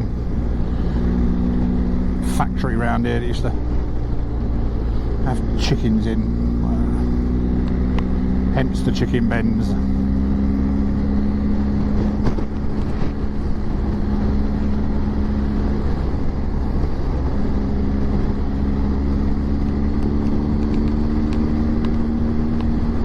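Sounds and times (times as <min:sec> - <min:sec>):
motorcycle engine cruising: 0:00.0 - 0:23.0
wind rumble on microphone: 0:00.0 - 0:23.0.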